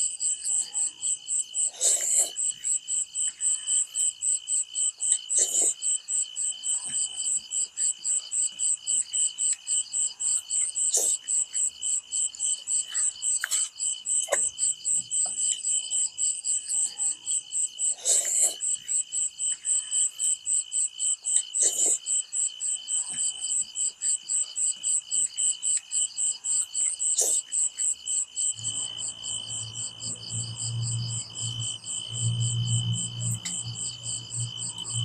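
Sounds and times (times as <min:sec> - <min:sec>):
night insects chorus: 0:00.0 - 0:35.0.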